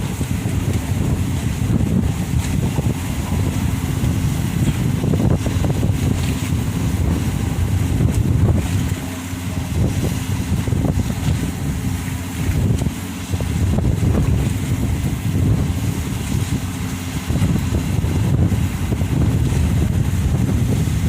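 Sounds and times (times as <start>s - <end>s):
faint engine drone: 0.0s - 21.0s
wind buffeting microphone: 0.0s - 21.0s.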